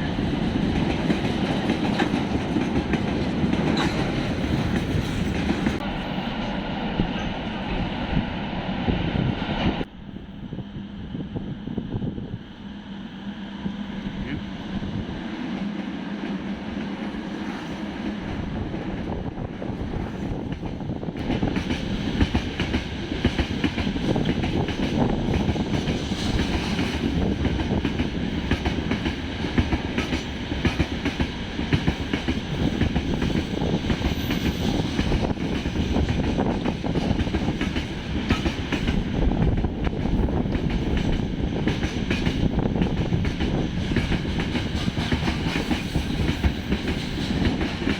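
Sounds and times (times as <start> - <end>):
train wheels clattering on rails: 0.0 - 8.0, 15.4 - 47.9.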